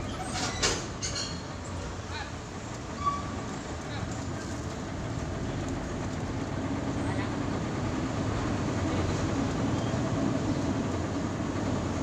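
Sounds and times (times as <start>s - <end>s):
truck engine drone inside cab: 0.0s - 12.0s.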